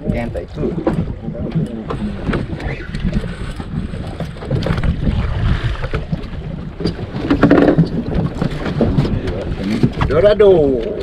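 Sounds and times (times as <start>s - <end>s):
boat engine rumble: 0.0s - 11.0s
wind on microphone: 0.0s - 11.0s.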